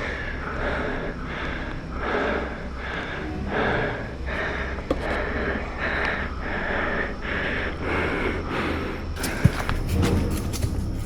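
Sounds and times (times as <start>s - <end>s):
person panting hard: 0.0s - 9.9s.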